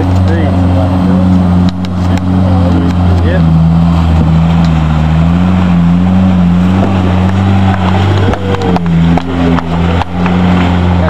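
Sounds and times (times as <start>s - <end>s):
car engine under load: 0.0s - 11.0s
water splashing: 0.0s - 11.0s.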